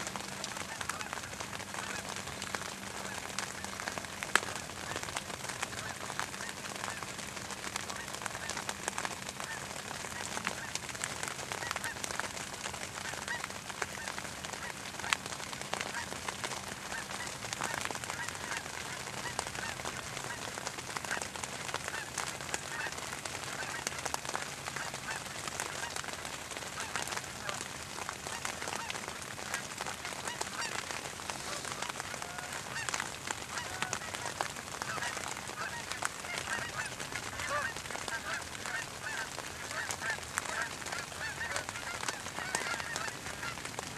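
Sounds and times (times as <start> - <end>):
geese honking: 0.4 - 10.9, 11.6 - 12.2, 13.0 - 15.2, 15.8 - 16.1, 16.8 - 20.5, 21.8 - 26.0, 26.8 - 27.6, 28.3 - 43.6.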